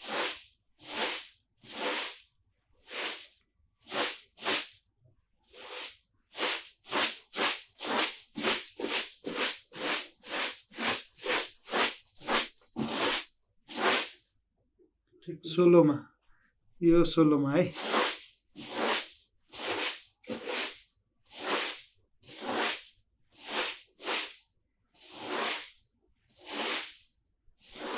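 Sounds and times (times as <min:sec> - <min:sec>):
broom sweeping strokes: 0:00.0 - 0:04.8, 0:05.5 - 0:14.3, 0:17.7 - 0:24.4, 0:25.0 - 0:27.9.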